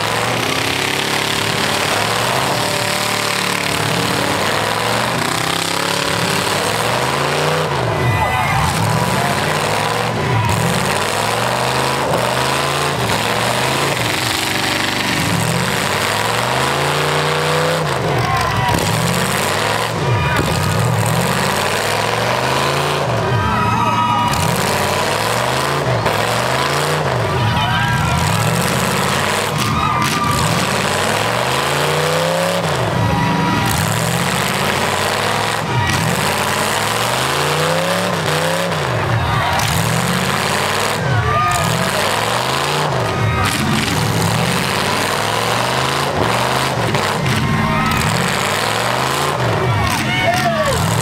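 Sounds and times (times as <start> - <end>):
car engines revving: 0.0 - 51.0.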